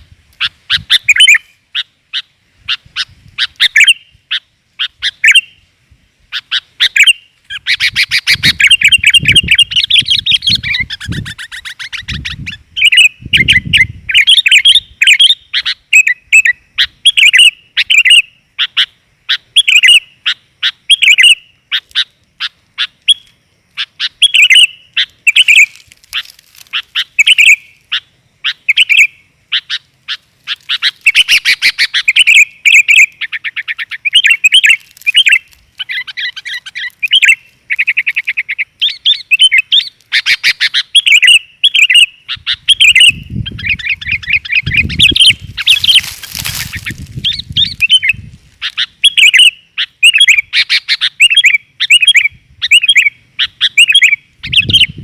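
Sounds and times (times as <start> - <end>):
bulbul chirping and trilling: 0.0 - 5.6, 6.3 - 55.0.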